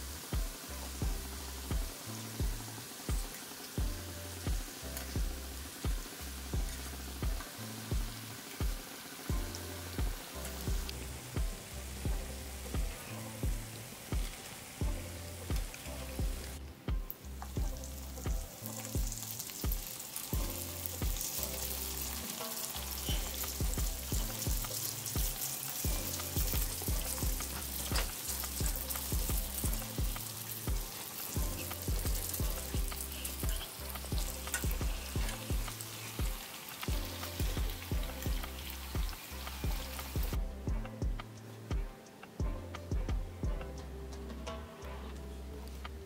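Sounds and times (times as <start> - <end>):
dough sizzling in hot oil: 0.0 - 40.9
background music with steady beat: 0.0 - 46.0.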